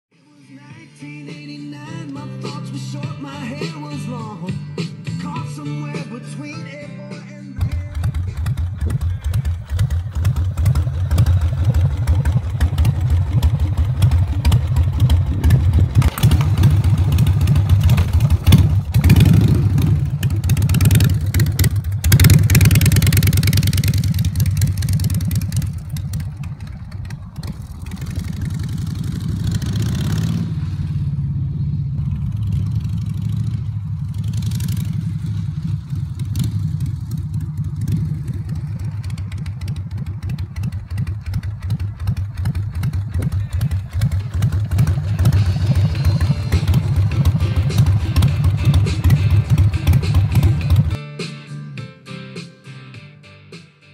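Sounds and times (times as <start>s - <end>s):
motorcycle engine revving: 7.6s - 51.0s.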